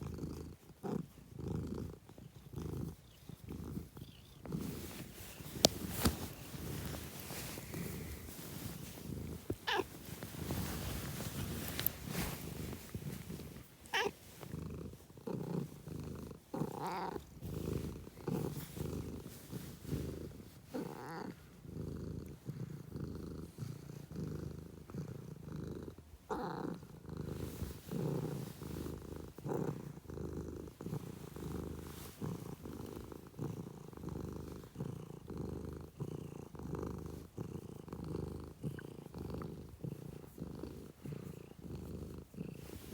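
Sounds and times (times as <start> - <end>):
cat purring: 0.0 - 42.9.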